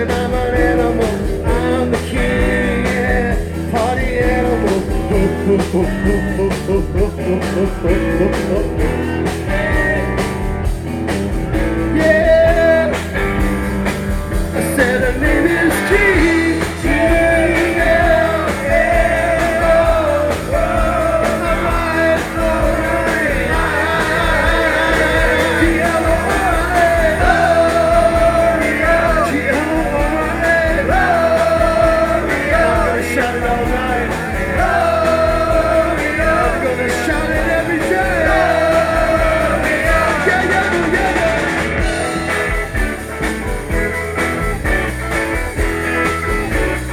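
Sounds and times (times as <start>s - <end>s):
live rock band playing: 0.0s - 46.9s.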